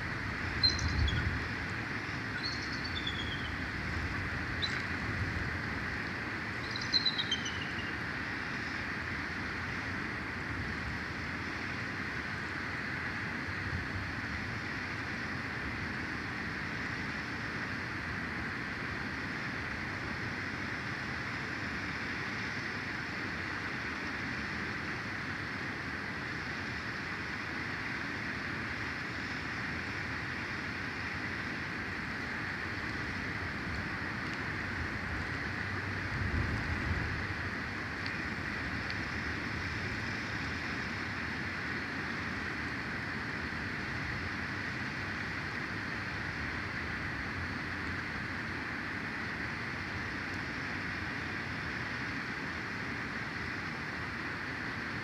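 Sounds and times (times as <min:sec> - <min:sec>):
wind-like hiss: 0:00.0 - 0:55.0.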